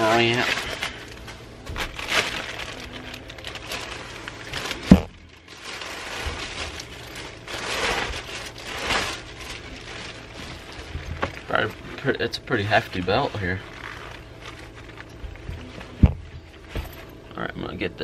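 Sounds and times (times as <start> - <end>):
bubble wrap crinkling: 0.0 - 17.2.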